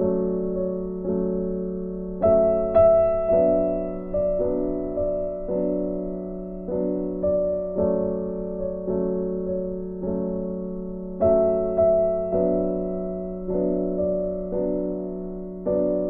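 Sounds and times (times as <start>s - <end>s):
slow gentle piano chords: 0.0s - 16.0s.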